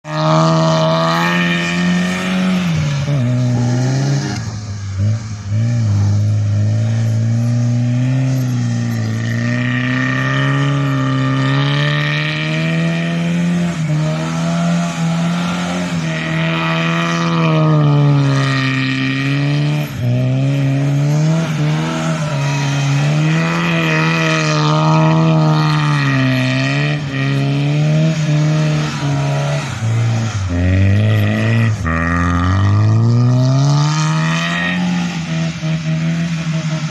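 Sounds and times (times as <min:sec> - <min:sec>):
car engine at high revs: 0:00.0 - 0:36.9.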